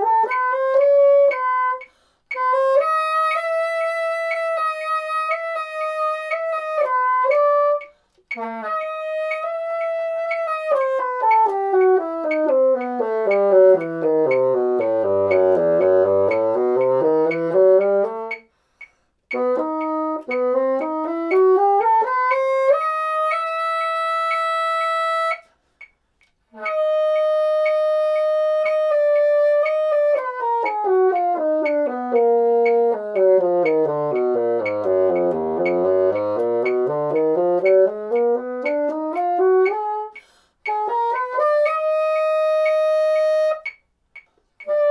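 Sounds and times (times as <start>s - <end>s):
bassoon playing scales: 0.0s - 18.6s, 19.3s - 25.6s, 26.4s - 44.9s.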